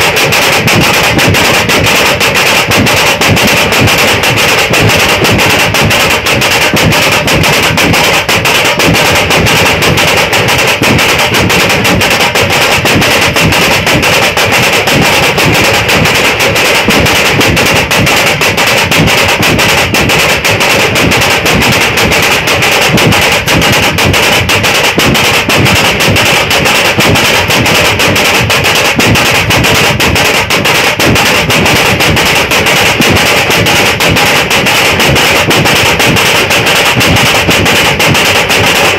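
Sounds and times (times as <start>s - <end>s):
drum troupe drumming: 0.0s - 38.9s.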